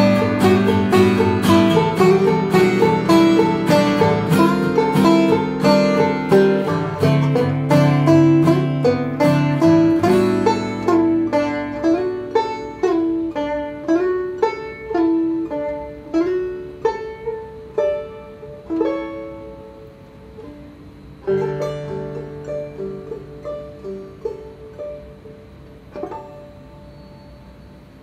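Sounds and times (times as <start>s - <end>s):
acoustic guitar: 0.0s - 28.0s
banjo plucked notes: 0.0s - 28.0s.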